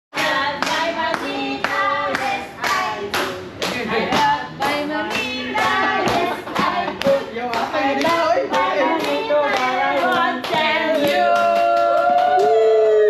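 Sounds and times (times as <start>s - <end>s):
people singing: 0.2s - 12.9s.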